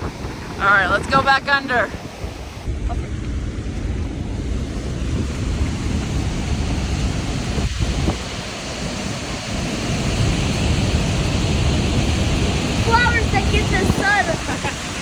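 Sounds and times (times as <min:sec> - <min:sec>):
water rushing over spillway: 0:00.0 - 0:15.0
wind buffeting microphone: 0:00.0 - 0:15.0.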